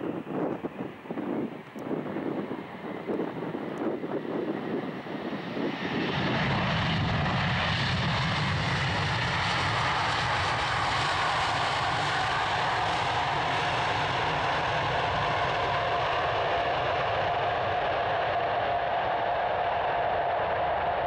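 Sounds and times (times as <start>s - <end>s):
jet engines passing: 0.0s - 21.0s.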